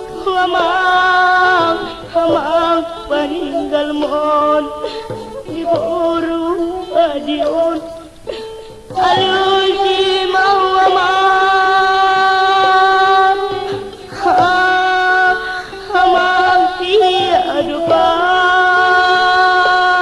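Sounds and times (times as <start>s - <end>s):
person singing long held notes: 0.0s - 20.0s.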